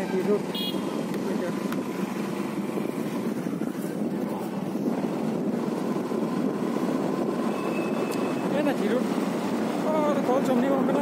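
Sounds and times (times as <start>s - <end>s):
motorcycle road and engine noise: 0.0s - 11.0s
wind on microphone: 0.9s - 9.9s.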